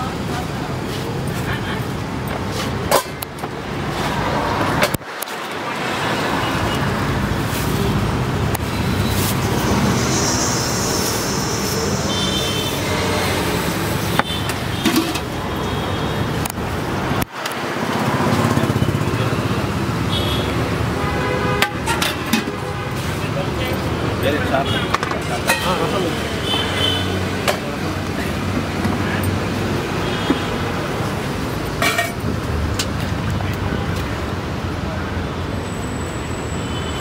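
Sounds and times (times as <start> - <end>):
roadside traffic noise: 0.0 - 37.0.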